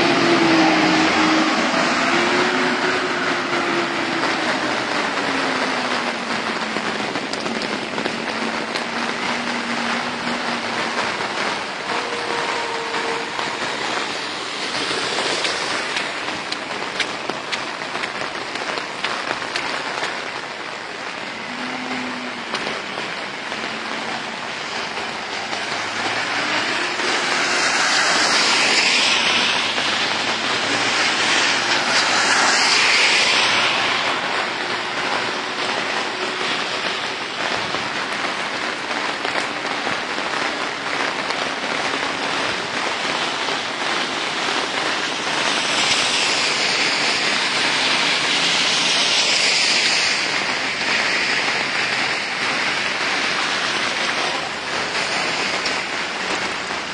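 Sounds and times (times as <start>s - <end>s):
cars swishing past on wet road: 0.0s - 56.9s
gusty wind: 0.0s - 56.9s
heavy rain pouring: 0.0s - 56.9s.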